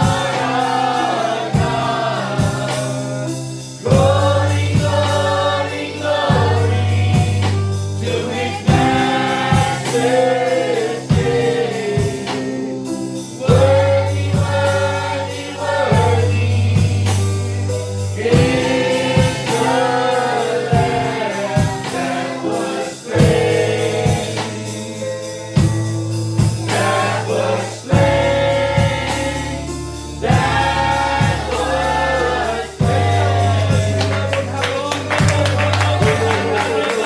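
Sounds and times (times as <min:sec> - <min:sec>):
drumbeat: 0:00.0 - 0:12.6, 0:13.5 - 0:17.5, 0:18.2 - 0:37.0
bass notes: 0:00.0 - 0:37.0
voices singing: 0:00.0 - 0:37.0.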